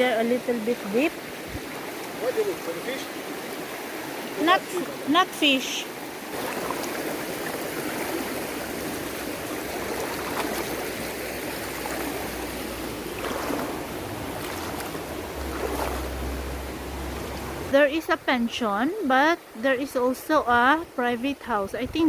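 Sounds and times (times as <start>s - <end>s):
river water rushing over rocks: 0.0s - 18.1s.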